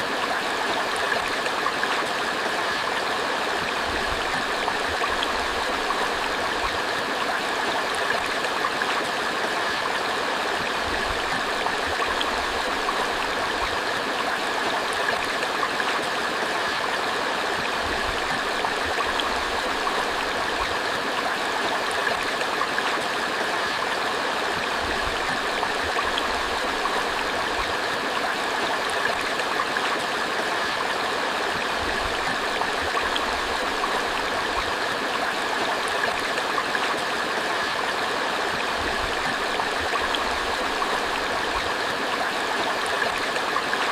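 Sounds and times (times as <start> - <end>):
creek water flowing: 0.0 - 43.9.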